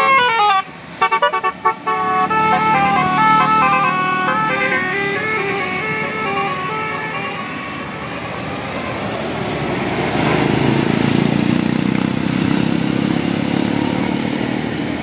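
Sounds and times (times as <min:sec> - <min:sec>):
coach engine and tyres passing: 0:00.0 - 0:15.0.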